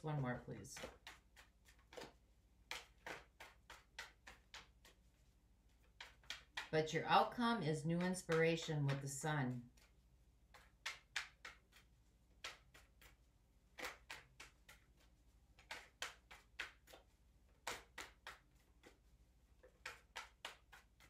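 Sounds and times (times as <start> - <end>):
cards being shuffled: 0.5 - 6.8, 7.8 - 21.0.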